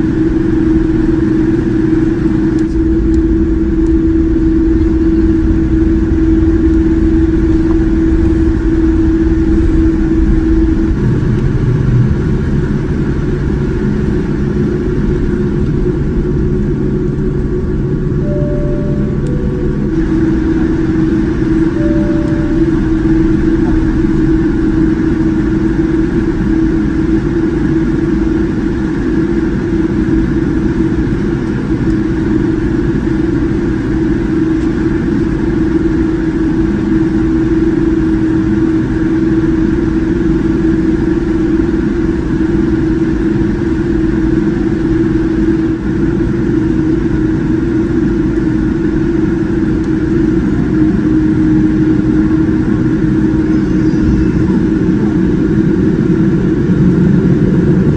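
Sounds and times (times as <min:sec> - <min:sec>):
constant cabin hum: 0:00.0 - 0:57.9.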